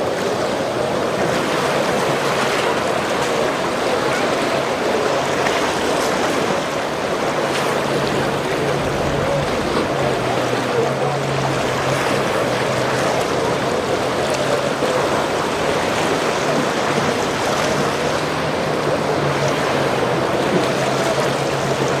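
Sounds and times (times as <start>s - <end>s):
low boat engine hum: 0.0s - 22.0s
water splashing past hull: 0.0s - 22.0s.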